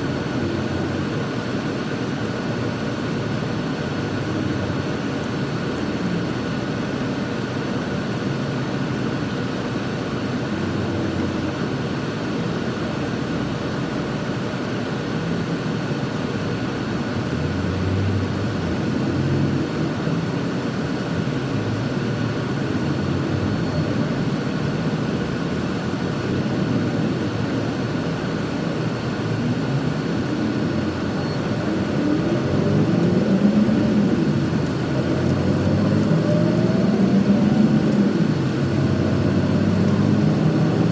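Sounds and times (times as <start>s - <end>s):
bus engine and road noise: 0.0s - 40.9s.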